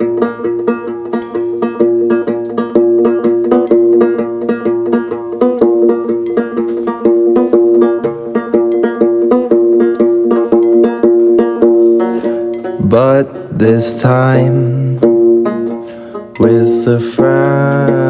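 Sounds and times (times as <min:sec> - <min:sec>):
plucked string instrument: 0:00.0 - 0:18.0
steady held tone: 0:00.0 - 0:18.0.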